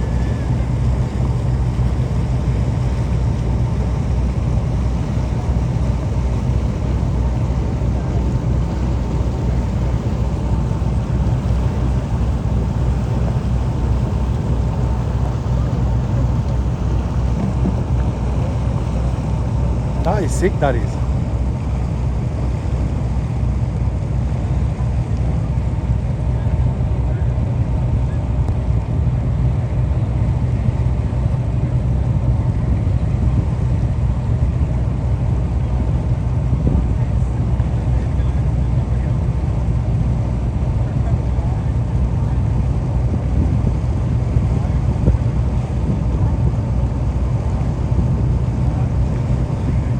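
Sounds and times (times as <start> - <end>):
boat engine rumbling: 0.0 - 49.9.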